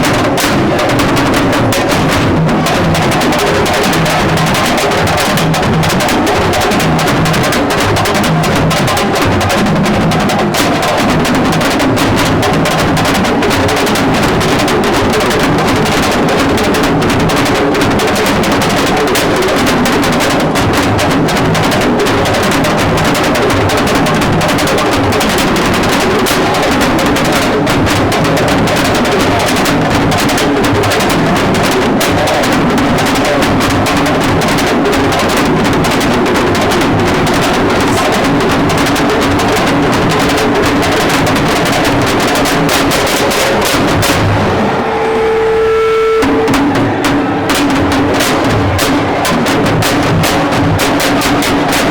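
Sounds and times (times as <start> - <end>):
drum-driven music: 0.0 - 51.9.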